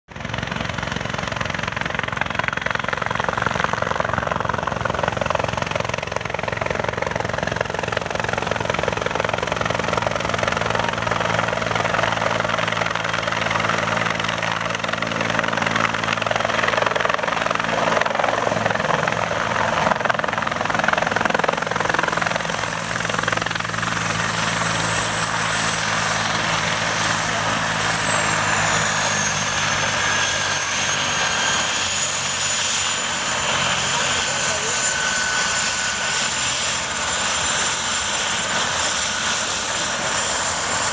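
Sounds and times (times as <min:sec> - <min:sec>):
helicopter turbine whine: 0:00.1 - 0:40.9
helicopter rotor thrum: 0:00.2 - 0:40.9.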